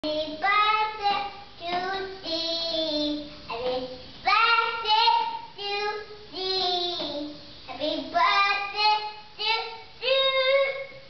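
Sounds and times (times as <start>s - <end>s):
young child singing: 0.0s - 11.0s.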